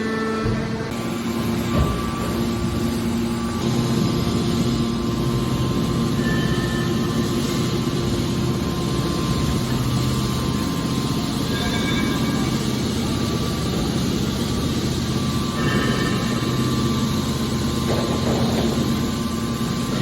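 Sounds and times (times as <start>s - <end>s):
press baler machine drone: 0.0s - 20.0s.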